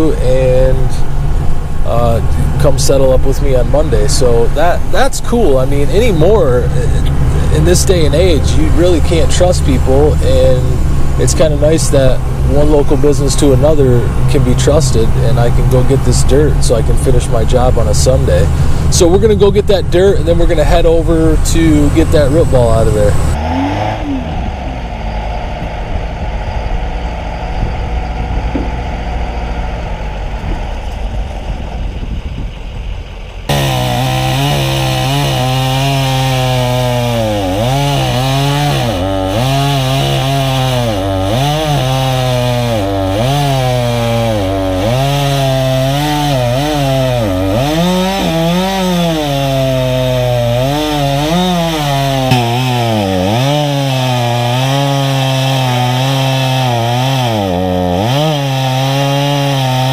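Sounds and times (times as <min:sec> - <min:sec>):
chainsaw cutting wood: 0:00.0 - 0:24.9, 0:26.6 - 0:29.7, 0:33.5 - 0:59.9
vehicle engine and road rumble: 0:00.0 - 0:59.9.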